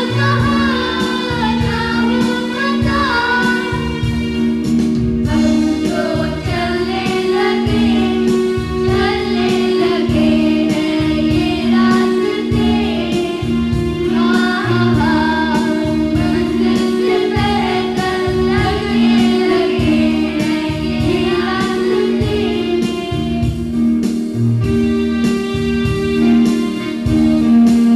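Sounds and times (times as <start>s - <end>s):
children singing: 0.0s - 4.1s, 5.3s - 23.7s
backing music with steady beat: 0.0s - 27.9s.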